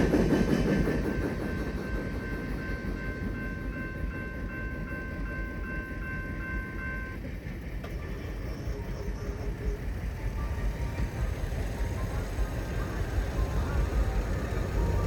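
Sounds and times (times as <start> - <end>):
freight train rumbling past: 0.0 - 15.0
crossing warning bell ringing: 1.0 - 15.0.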